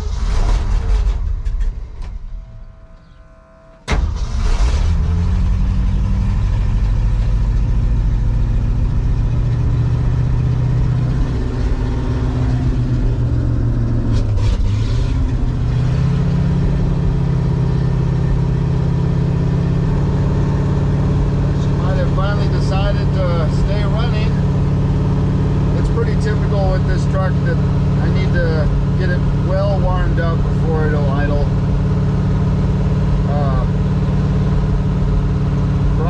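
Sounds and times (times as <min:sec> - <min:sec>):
truck engine starting and revving: 0:00.0 - 0:36.0.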